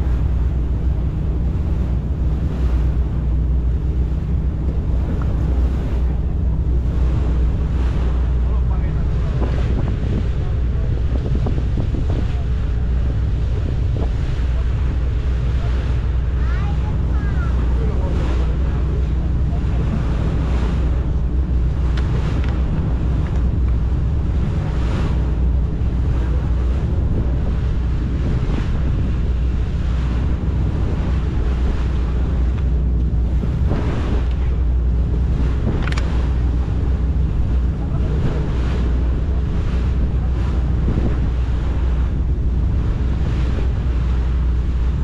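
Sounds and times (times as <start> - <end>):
boat engine droning: 0.0 - 45.0
water rushing along hull: 0.0 - 45.0
wind buffeting microphone: 0.0 - 45.0.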